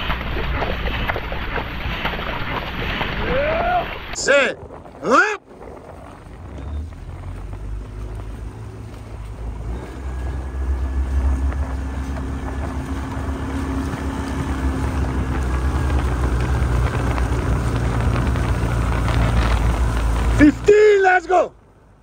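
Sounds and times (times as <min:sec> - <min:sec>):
wind rumble on microphone: 0:00.0 - 0:21.0
motorboat engine running: 0:00.0 - 0:22.0
paddles splashing water: 0:00.0 - 0:22.0.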